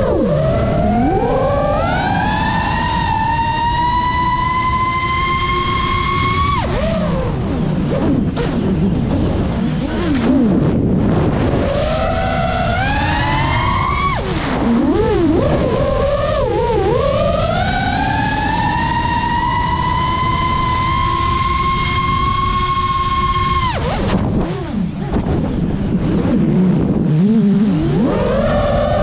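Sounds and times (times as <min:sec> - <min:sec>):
rushing noise: 0:00.0 - 0:27.0
drone motors whining: 0:00.0 - 0:29.0.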